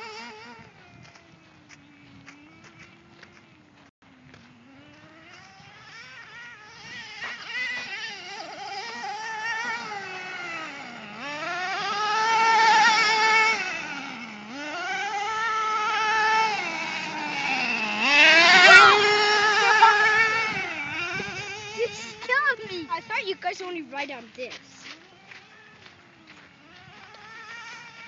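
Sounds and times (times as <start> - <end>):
rc truck motor whining: 0.0 - 28.0.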